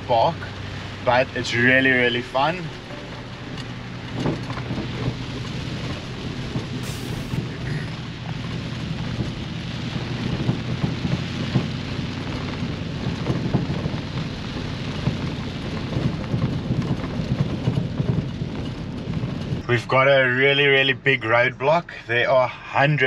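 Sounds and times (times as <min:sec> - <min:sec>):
heavy rain on a vehicle: 0:00.0 - 0:20.8
engine and tyres rumbling: 0:00.0 - 0:23.0.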